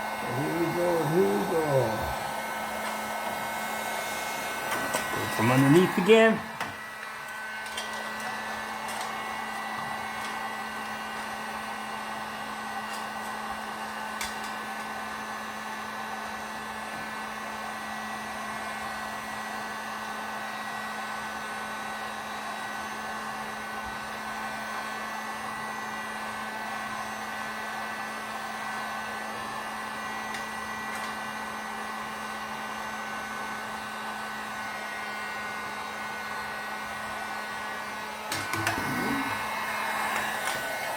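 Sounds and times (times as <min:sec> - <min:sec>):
heat gun blowing air: 0:00.0 - 0:20.5, 0:21.6 - 0:40.9.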